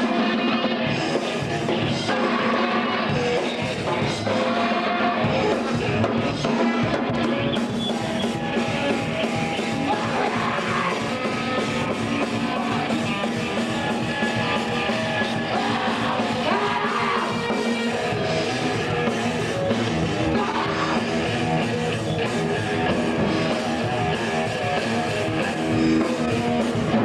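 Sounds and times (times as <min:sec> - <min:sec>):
punk rock music: 0:00.0 - 0:27.0
yelled vocals: 0:00.0 - 0:27.0.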